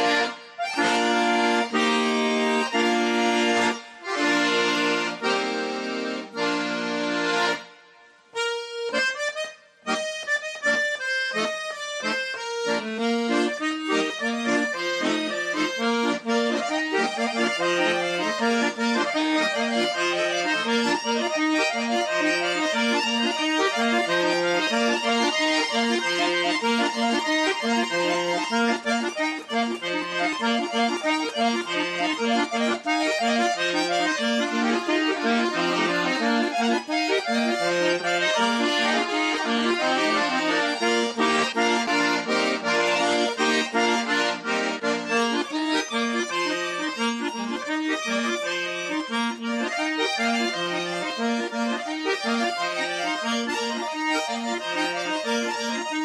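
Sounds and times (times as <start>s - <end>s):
accordion duet: 0.0s - 56.0s.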